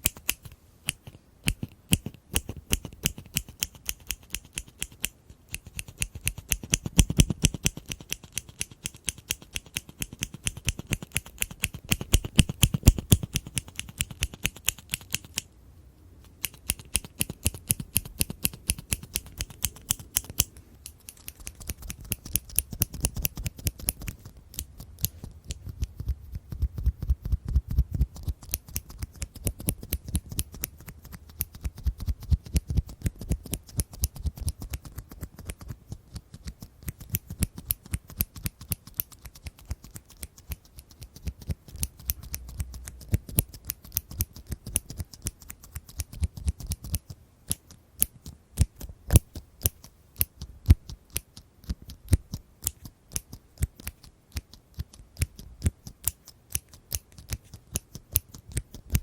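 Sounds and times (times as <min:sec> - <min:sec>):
scissors snipping: 0:00.0 - 0:15.5, 0:16.2 - 0:26.0, 0:36.3 - 0:59.0.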